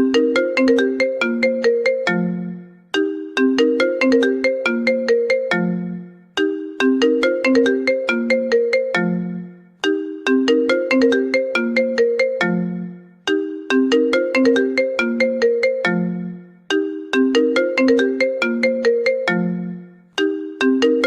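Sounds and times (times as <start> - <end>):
bell-like phone ringtone: 0.0 - 21.0.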